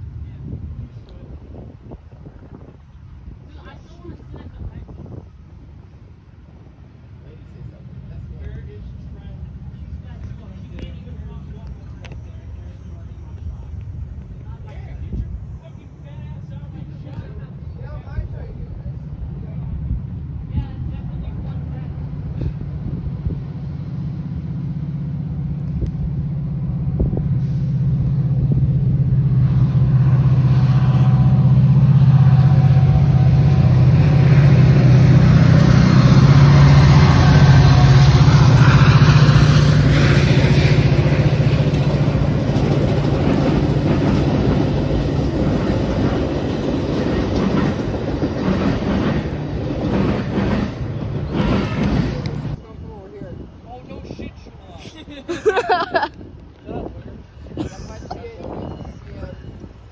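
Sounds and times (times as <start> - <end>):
locomotive engine drone: 0.0 - 59.9
train rushing along rails: 0.0 - 59.9.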